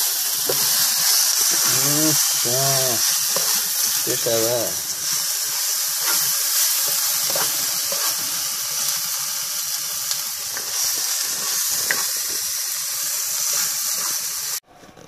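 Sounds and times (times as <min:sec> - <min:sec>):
food sizzling in a wok: 0:00.0 - 0:14.6.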